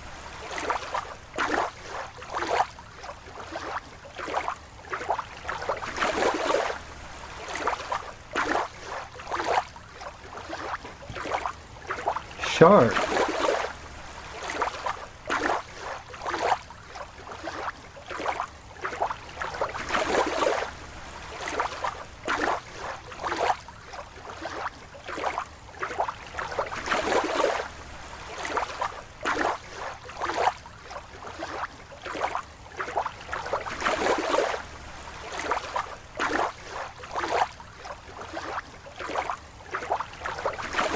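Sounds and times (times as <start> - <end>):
water splashing and lapping: 0.0 - 40.9.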